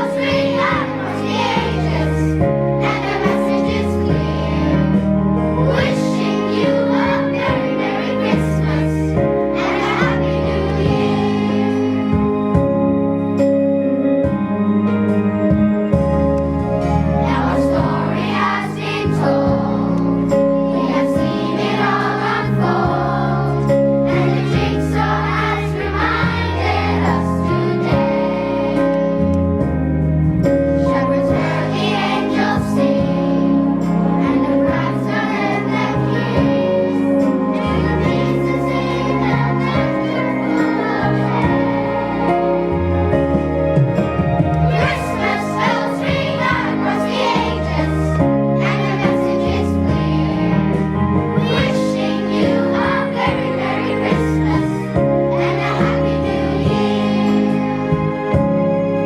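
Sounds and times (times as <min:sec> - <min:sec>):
children's choir singing: 0:00.0 - 0:12.7, 0:16.8 - 0:29.6, 0:30.8 - 0:43.5, 0:44.4 - 0:58.5
instrumental accompaniment: 0:00.0 - 0:59.0.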